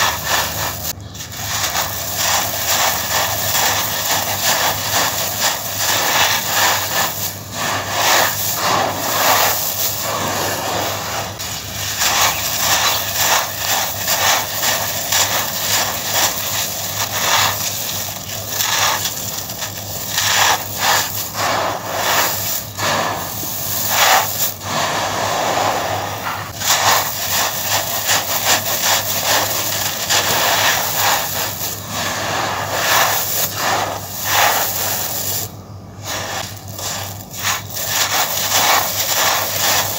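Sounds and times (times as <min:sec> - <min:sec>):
sand crunching in hands: 0:00.0 - 0:39.9
sand trickling: 0:00.0 - 0:39.9.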